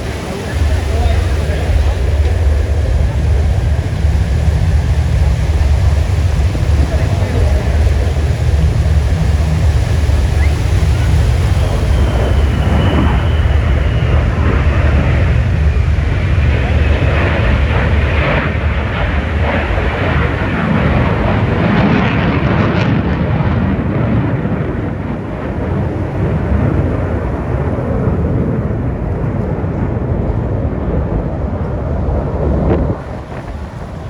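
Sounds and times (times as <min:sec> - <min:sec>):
aircraft flying past: 0:00.0 - 0:34.0.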